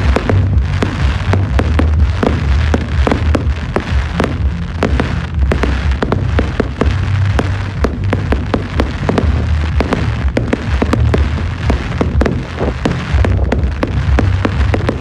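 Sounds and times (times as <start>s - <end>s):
fireworks cracking and banging: 0.0s - 15.0s
low rumble: 0.0s - 15.0s.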